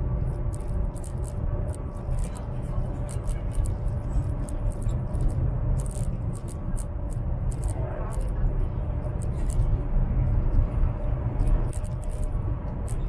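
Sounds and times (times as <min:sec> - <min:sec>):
train rumble inside carriage: 0:00.0 - 0:13.0.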